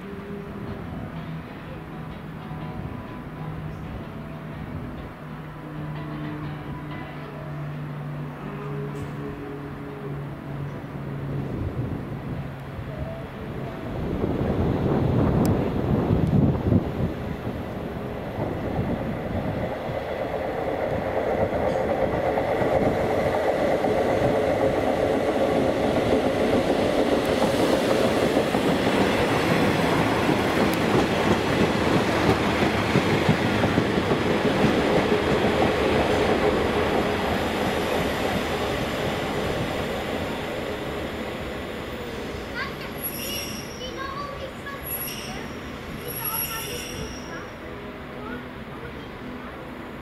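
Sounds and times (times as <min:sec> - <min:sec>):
train rumbling on rails: 0:00.0 - 0:50.0.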